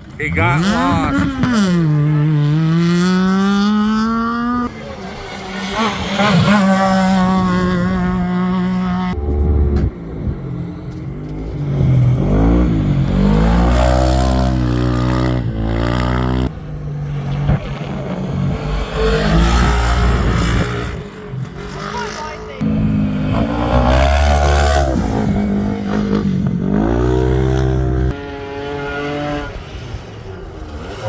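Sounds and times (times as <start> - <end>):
race vehicle engines revving: 0.0 - 31.0.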